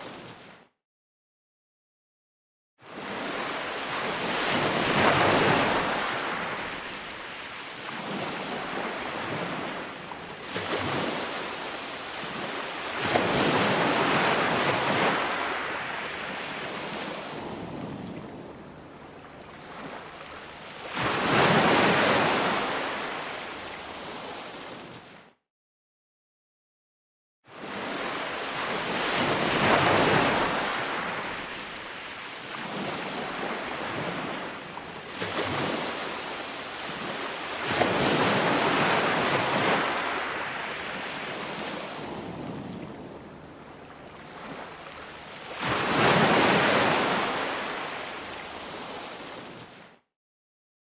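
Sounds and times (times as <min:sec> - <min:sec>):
ocean waves breaking on shore: 0:00.0 - 0:00.6, 0:02.8 - 0:25.4, 0:27.5 - 0:50.0.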